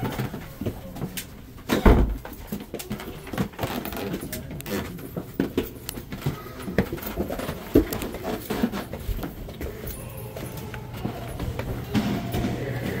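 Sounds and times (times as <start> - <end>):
footsteps on wooden stairs: 0.0 - 13.0.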